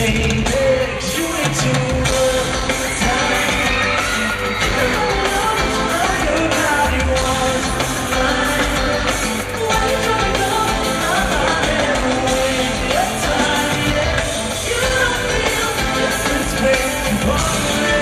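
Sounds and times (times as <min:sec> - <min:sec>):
live pop-rock band: 0:00.0 - 0:18.0
male lead vocal singing: 0:00.0 - 0:18.0.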